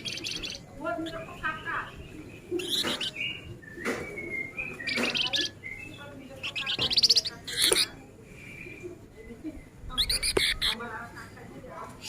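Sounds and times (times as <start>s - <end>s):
songbird chattering trills: 0.0s - 10.8s.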